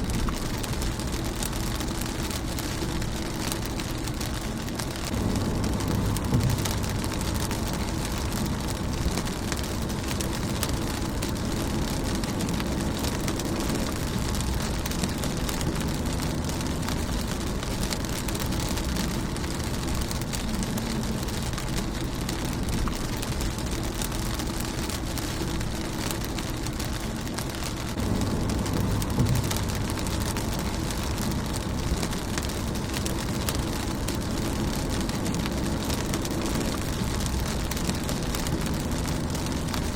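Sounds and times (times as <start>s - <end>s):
low rumble: 0.0s - 39.9s
rain on a car windshield: 0.0s - 39.9s.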